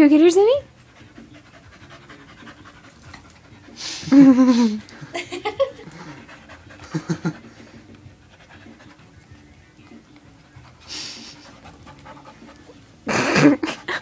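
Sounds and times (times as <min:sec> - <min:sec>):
dog panting: 0:00.5 - 0:14.0.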